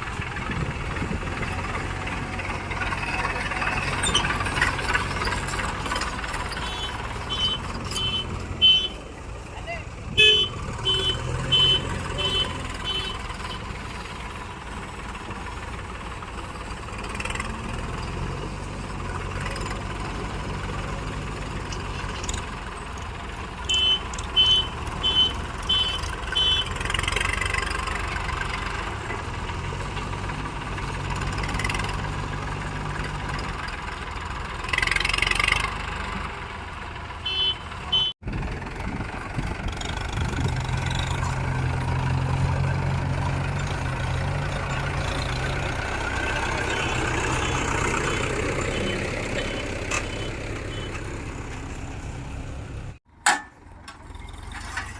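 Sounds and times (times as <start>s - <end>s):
backhoe diesel engine working: 0.0s - 54.9s.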